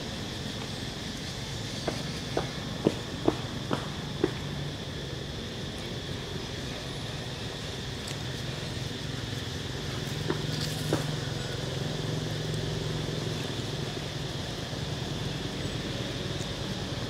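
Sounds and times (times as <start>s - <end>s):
steady high hiss: 0.0s - 17.0s
steady low hum: 0.0s - 17.0s.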